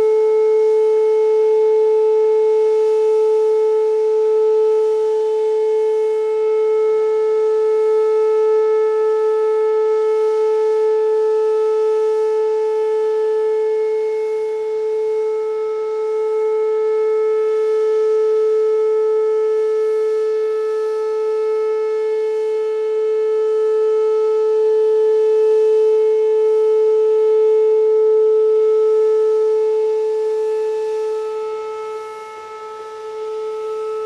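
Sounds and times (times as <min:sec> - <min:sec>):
warning siren steady tone: 0:00.0 - 0:34.0.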